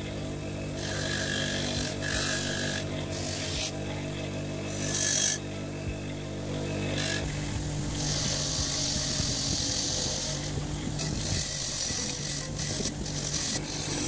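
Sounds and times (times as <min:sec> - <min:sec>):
electric bench grinder motor running: 0:00.0 - 0:14.0
steel grinding on wheel: 0:00.0 - 0:14.0.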